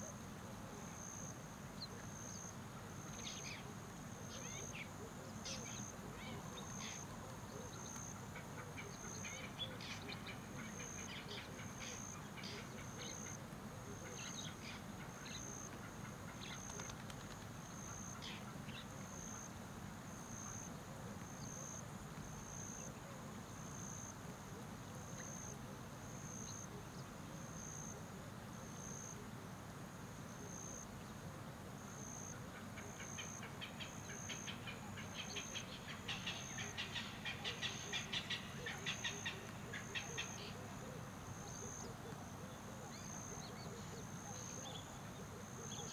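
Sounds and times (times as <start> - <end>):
faint hiss: 0.0 - 45.9.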